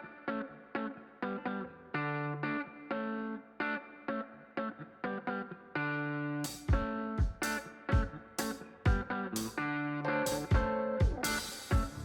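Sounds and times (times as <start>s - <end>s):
plucked guitar notes: 0.0s - 12.0s.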